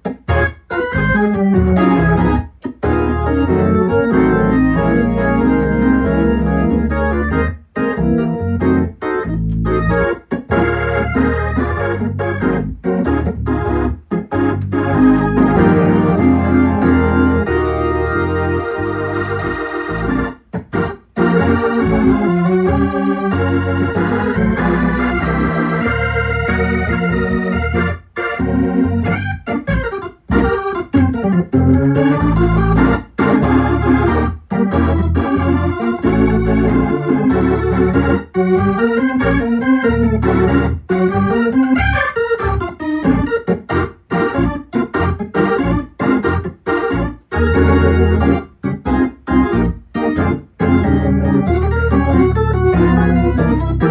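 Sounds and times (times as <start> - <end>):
organ chords through rotating speaker: 0.0 - 53.9.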